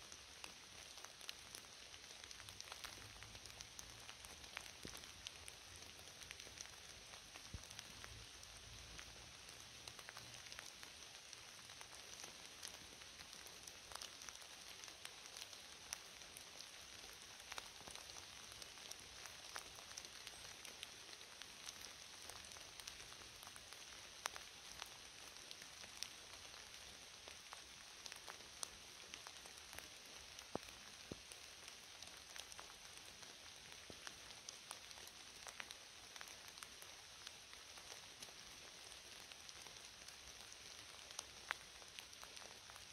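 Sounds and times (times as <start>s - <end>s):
rain falling on leaves: 0.0s - 42.9s.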